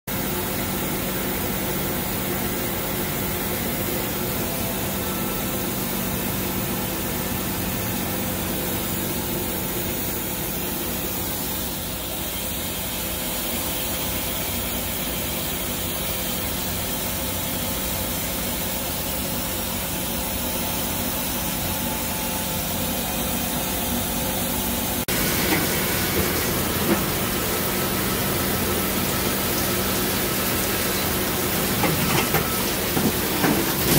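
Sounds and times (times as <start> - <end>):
coolant spray hissing: 0.1 - 33.9
lathe mechanical hum: 0.1 - 33.9.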